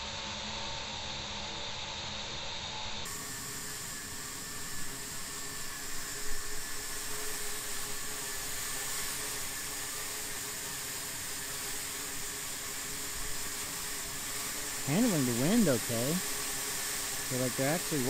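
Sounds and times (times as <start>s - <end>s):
drone propeller hum: 3.1s - 18.0s
even hiss: 3.1s - 18.0s.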